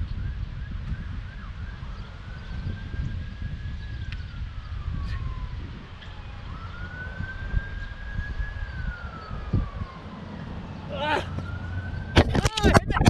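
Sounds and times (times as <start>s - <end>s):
siren wailing: 0.0s - 13.0s
wind buffeting microphone: 0.0s - 13.0s.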